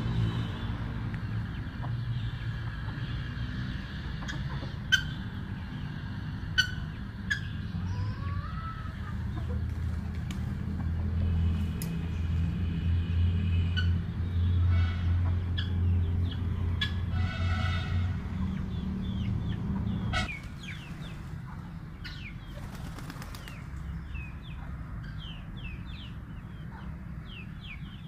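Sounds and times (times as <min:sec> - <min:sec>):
small birds chirping: 0:00.0 - 0:10.8, 0:13.7 - 0:17.1, 0:18.3 - 0:28.0.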